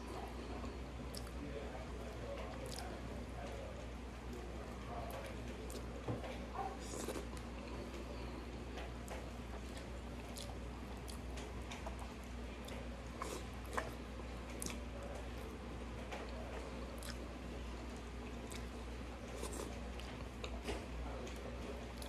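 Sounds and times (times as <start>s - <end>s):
chewing and wet mouth sounds: 0.0s - 22.0s.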